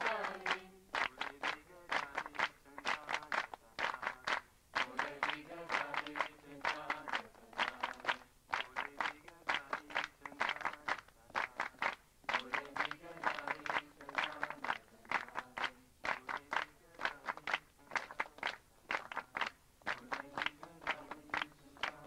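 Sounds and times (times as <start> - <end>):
group singing devotional song: 0.0 - 22.0
rhythmic hand claps: 0.0 - 22.0.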